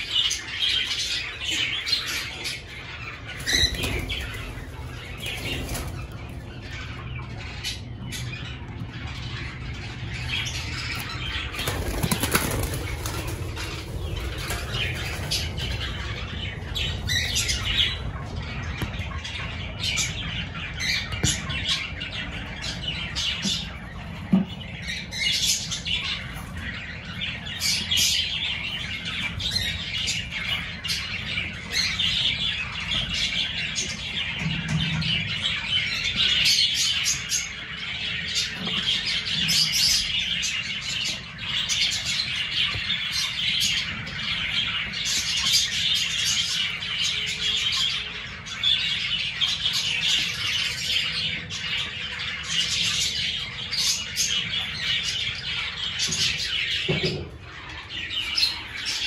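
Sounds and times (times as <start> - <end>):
birds chirping and squawking: 0.0 - 59.0.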